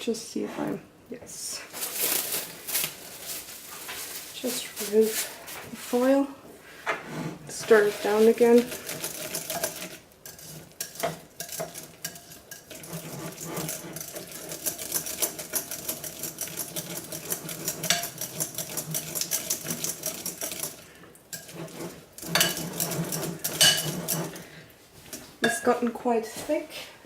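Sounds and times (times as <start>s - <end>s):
utensil stirring and scraping soap: 1.7s - 25.8s.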